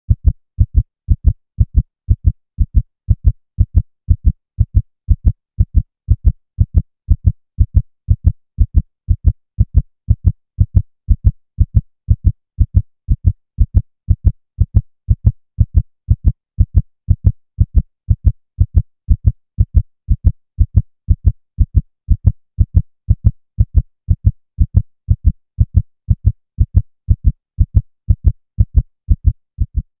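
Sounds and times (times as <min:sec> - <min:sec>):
heartbeat thumps: 0:00.1 - 0:30.0.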